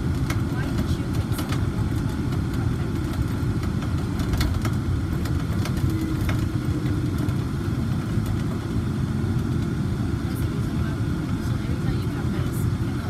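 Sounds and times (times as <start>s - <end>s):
monorail car rumble: 0.0s - 13.0s.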